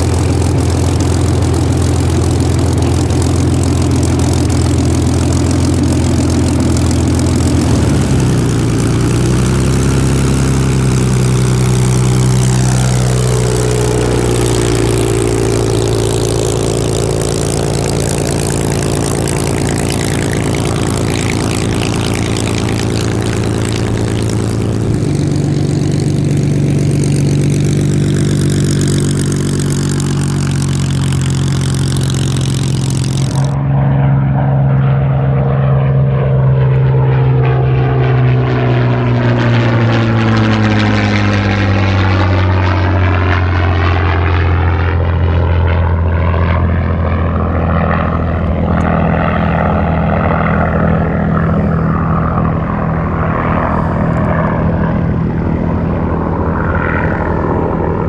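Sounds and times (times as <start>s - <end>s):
aircraft engine at high power: 0.0s - 58.0s.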